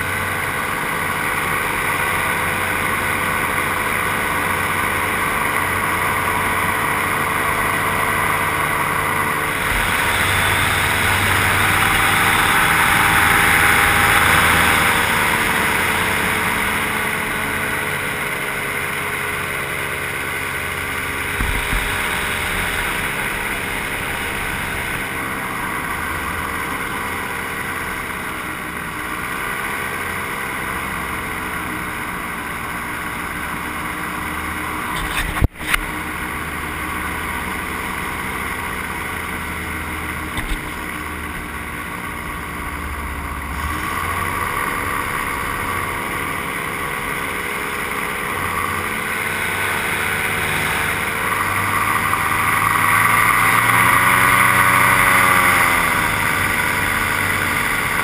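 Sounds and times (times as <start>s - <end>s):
aircraft motor running: 0.0s - 58.0s.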